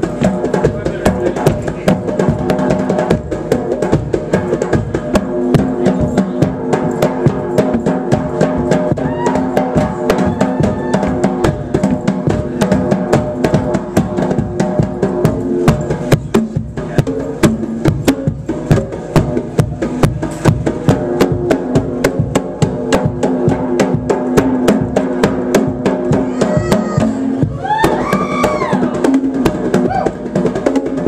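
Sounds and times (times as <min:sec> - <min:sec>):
rapid hand drum strikes: 0:00.0 - 0:31.0.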